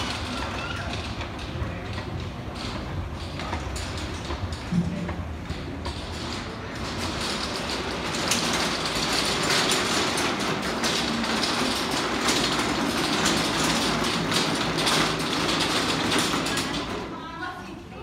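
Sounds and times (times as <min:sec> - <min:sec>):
trolley rattling on tiled floor: 0:00.0 - 0:17.8.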